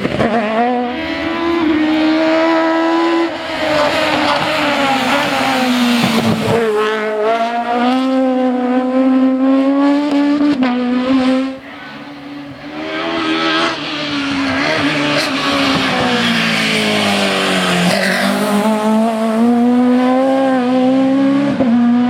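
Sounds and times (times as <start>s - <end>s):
rally car engine at high revs: 0.0s - 22.0s.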